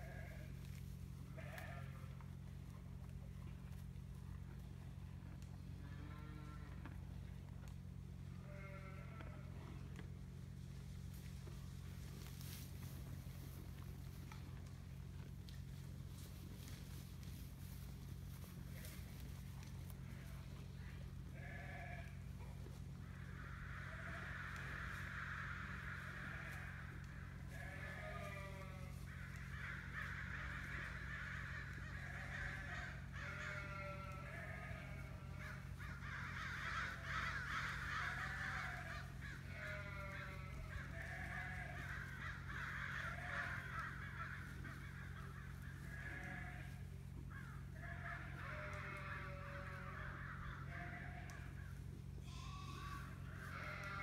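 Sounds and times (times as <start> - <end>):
sheep and lambs bleating: 0.0 - 2.4, 5.5 - 7.1, 8.2 - 10.1, 16.1 - 54.0
steady low hum: 0.0 - 54.0.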